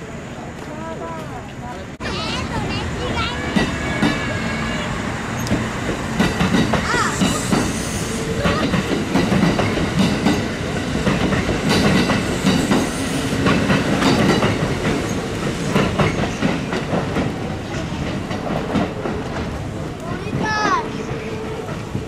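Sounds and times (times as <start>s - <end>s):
electric train rolling past: 0.0s - 22.0s
wheels clacking over rail joints: 0.5s - 22.0s.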